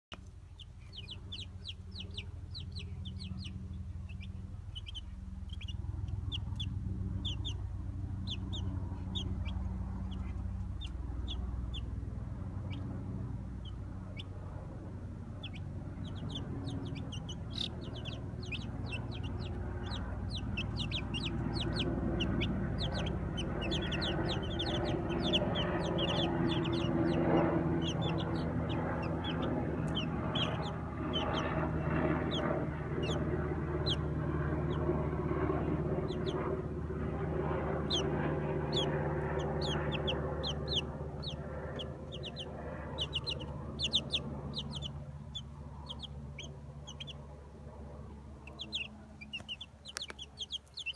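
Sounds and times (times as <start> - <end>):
chicks peeping: 0.1 - 47.3, 48.0 - 50.9
low rumble: 0.2 - 50.9.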